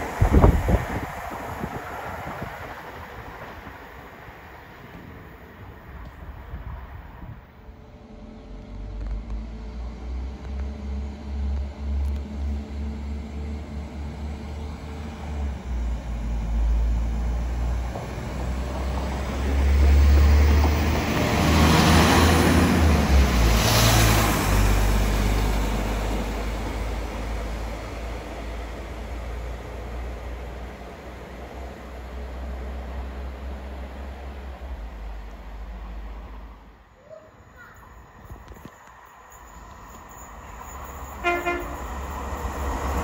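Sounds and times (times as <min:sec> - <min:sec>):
train wheel and rail noise: 0:00.0 - 0:43.0.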